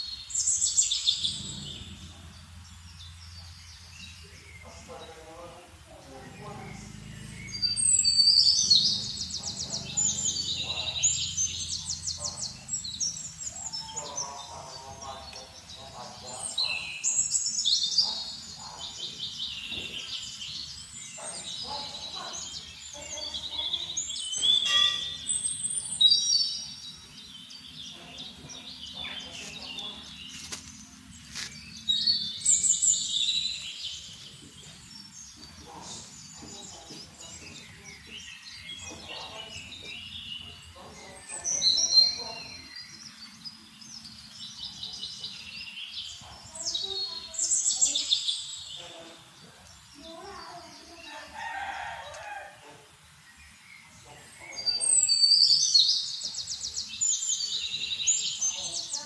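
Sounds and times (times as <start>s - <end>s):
faint steady background noise: 0.0s - 59.0s
small birds chirping: 0.0s - 59.0s.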